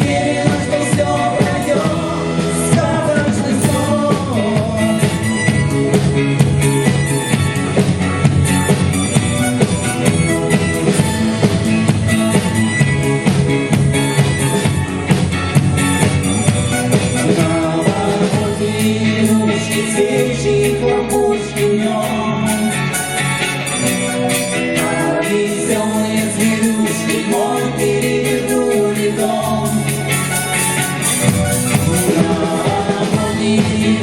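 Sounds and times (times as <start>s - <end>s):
pop-rock band music: 0.0s - 34.0s
steady drum beat: 0.0s - 34.0s.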